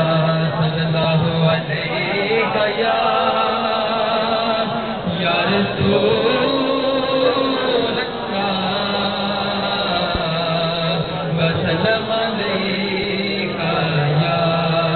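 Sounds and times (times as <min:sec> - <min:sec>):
man chanting into a microphone: 0:00.0 - 0:14.9.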